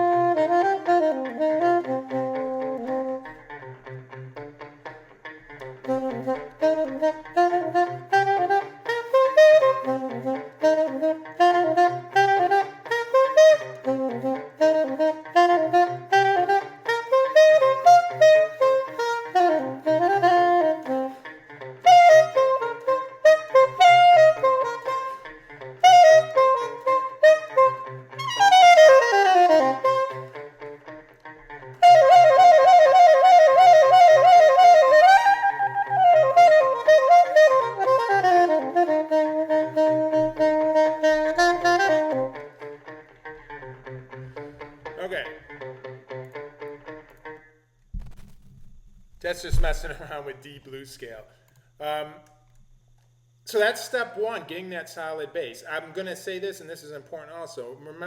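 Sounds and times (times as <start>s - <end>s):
saxophone improvising: 0.0s - 47.6s.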